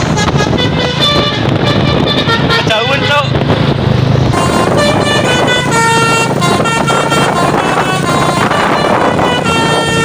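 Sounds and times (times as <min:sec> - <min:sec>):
musical air horn playing tune: 0:00.0 - 0:03.3, 0:04.3 - 0:10.0.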